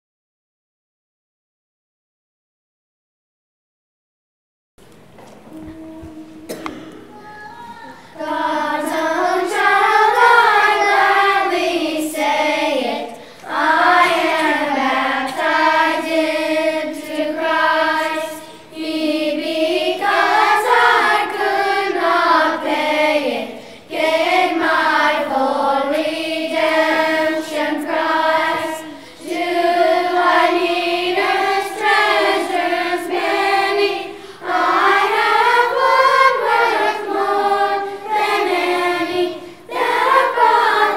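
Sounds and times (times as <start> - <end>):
children's choir singing a hymn: 5.4 - 40.9.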